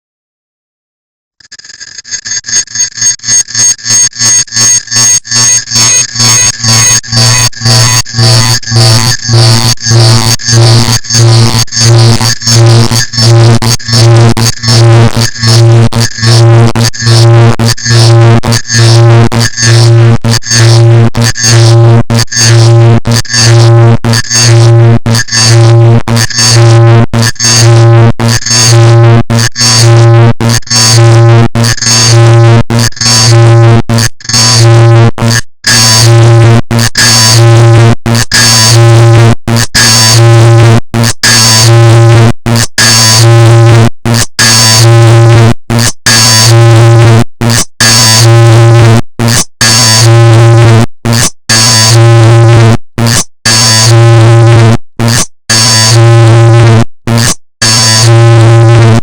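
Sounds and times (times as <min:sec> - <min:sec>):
distorted electronic buzzing: 0:01.4 - 0:59.0.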